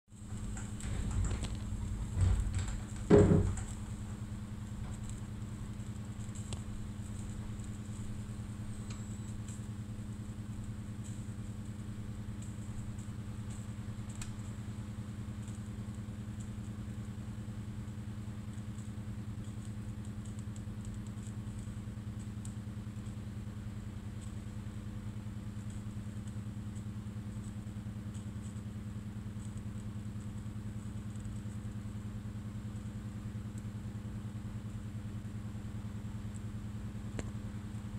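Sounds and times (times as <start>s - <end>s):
low mechanical hum: 0.1s - 37.9s.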